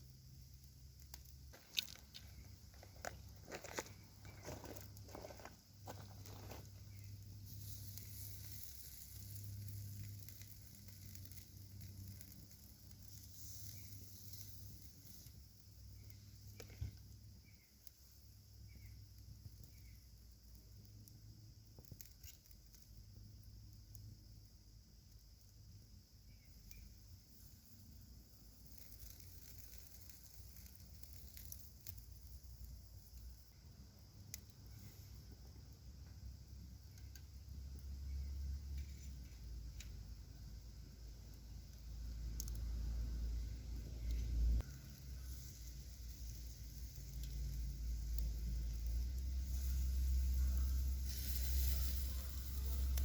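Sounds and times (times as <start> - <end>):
campfire sizzling: 0.0 - 53.0
fire crackles: 0.0 - 53.0
soft hiss: 0.0 - 53.0.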